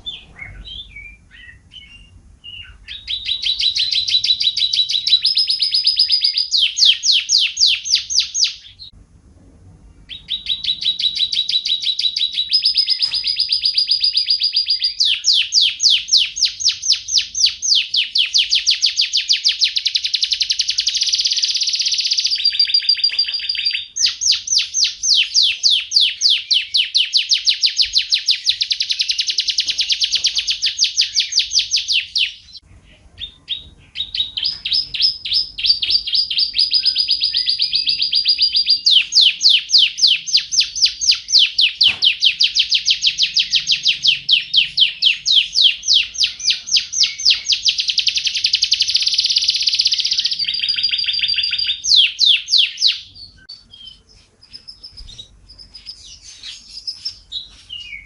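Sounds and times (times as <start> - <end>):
bird singing fast trills: 0.0 - 8.9, 10.1 - 32.6, 33.2 - 58.0.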